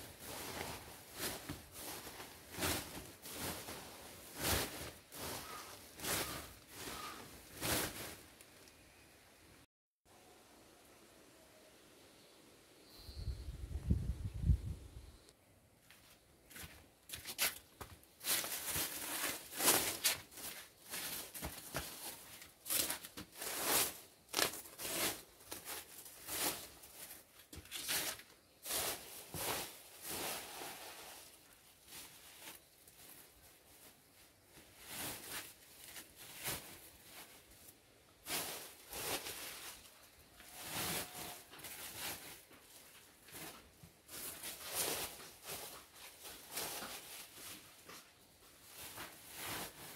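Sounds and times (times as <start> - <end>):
plastic bags crinkling and rustling: 0.0 - 8.8, 16.5 - 49.9.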